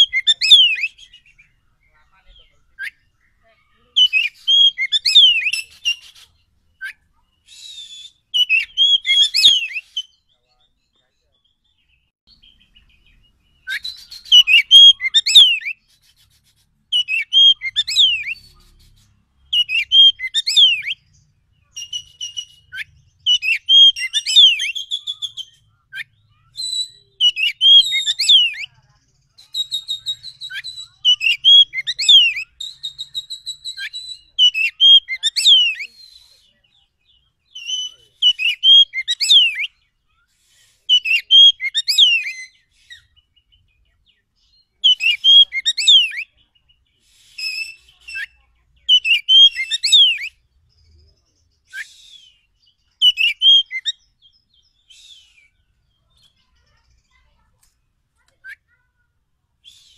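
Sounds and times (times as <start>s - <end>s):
songbird singing whistles and trills: 0.0s - 16.1s, 16.9s - 57.2s, 59.6s - 59.9s.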